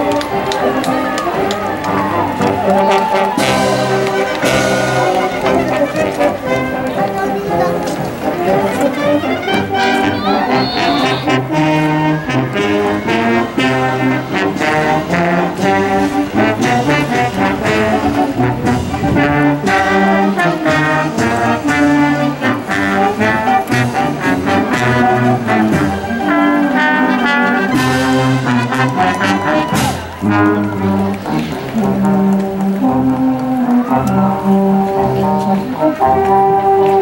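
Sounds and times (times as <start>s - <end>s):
steady drum beats: 0.0s - 35.2s
brass playing a march: 0.0s - 37.0s.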